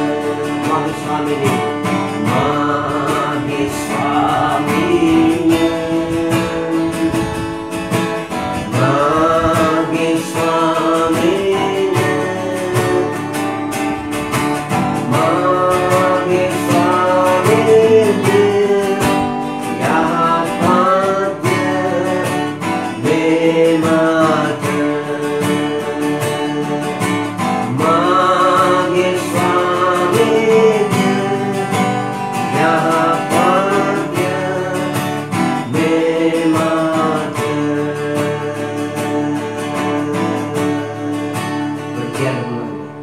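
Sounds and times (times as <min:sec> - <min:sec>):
acoustic guitar strumming: 0:00.0 - 0:43.0
man singing: 0:00.0 - 0:43.0.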